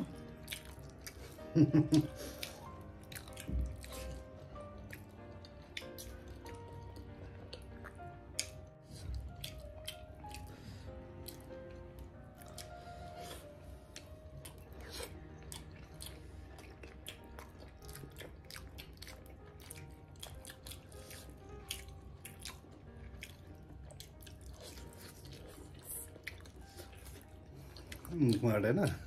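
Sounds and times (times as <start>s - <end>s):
chewing sounds: 0.0s - 29.0s.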